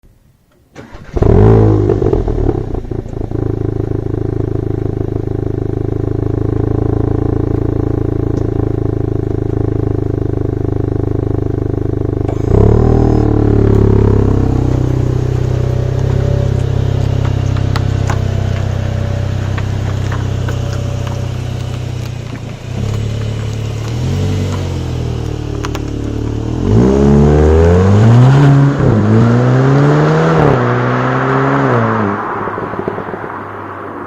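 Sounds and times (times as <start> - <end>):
car engine starting and idling: 0.5 - 34.0
engine revving: 0.8 - 32.4.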